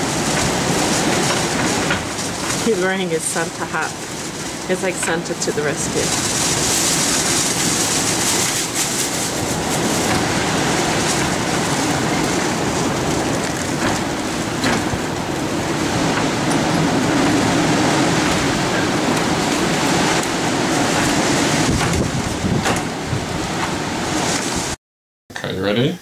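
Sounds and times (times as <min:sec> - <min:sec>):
storm wind blowing hard: 0:00.0 - 0:24.8.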